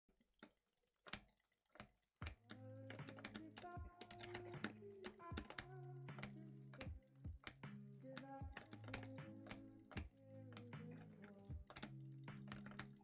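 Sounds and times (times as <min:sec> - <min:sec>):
faint sharp clicks: 0:00.2 - 0:13.0.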